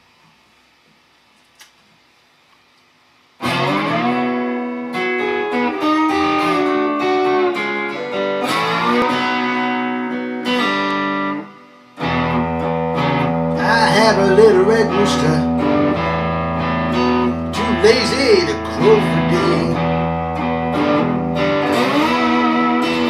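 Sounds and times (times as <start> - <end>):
slide electric guitar blues: 3.4 - 23.0.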